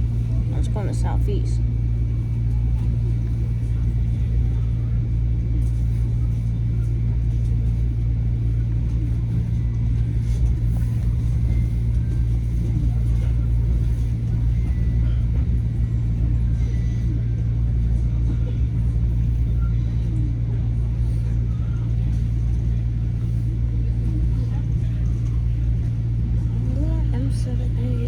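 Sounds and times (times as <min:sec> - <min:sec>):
electric trains humming: 0:00.0 - 0:28.0.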